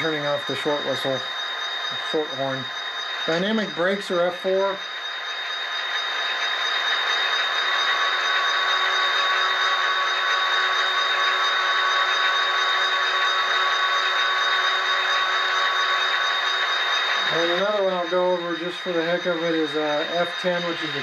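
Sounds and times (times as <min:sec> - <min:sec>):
blower fans whirring: 0:00.0 - 0:21.0.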